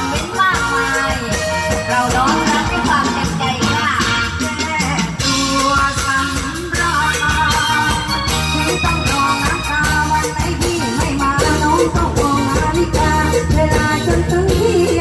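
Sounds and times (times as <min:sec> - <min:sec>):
live band dance music: 0:00.0 - 0:15.0
woman singing: 0:00.0 - 0:15.0.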